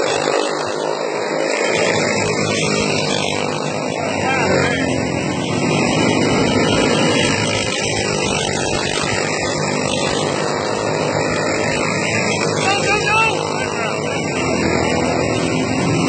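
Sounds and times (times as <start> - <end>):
racing kart engines buzzing: 0.0 - 16.0.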